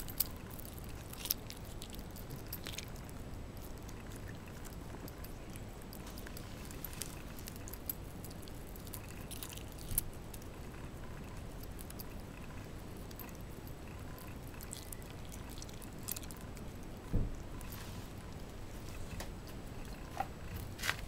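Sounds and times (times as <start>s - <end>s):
dogs chewing food: 0.0s - 21.0s.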